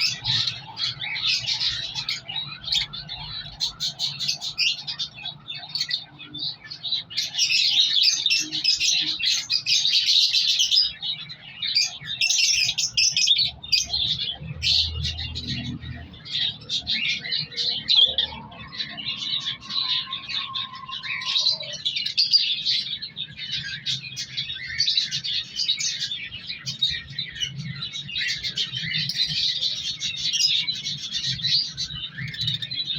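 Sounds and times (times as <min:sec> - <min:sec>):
cockatiels chirping: 0:00.0 - 0:32.9.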